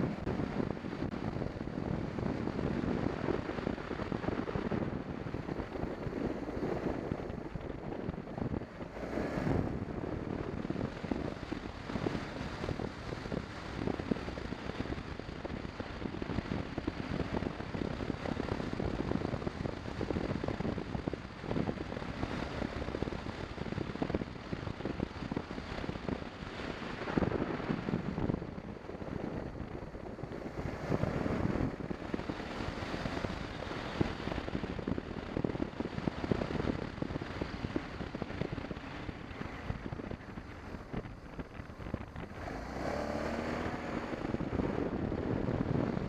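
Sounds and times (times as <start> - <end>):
motorcycle engine rumble: 0.0 - 46.0
road noise: 0.0 - 46.0
wind buffeting microphone: 0.0 - 46.0.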